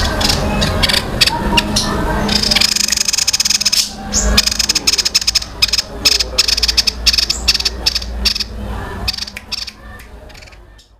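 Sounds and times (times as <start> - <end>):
songbird rapid clicking song: 0.0 - 8.5, 9.1 - 10.9.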